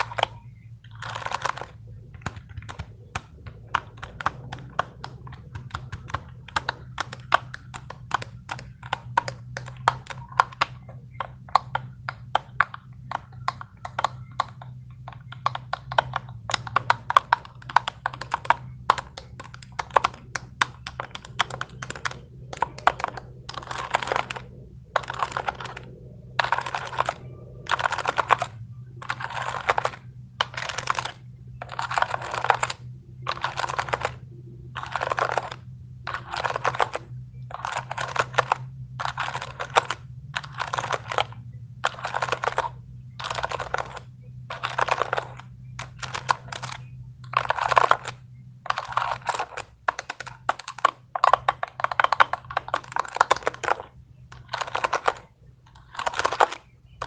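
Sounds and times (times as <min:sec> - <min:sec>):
noisy rubbing strokes: 0:00.0 - 0:47.0
plastic fidget toy clicking: 0:00.0 - 0:57.0.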